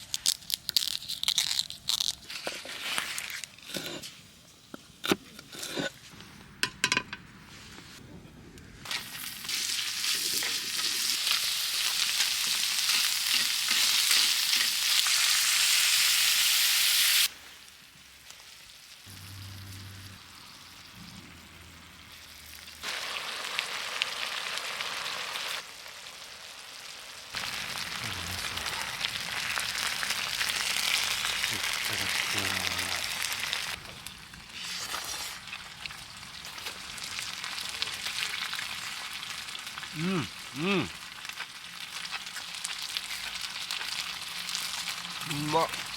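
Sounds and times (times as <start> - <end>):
food sizzling in a pan: 8.9 - 45.9.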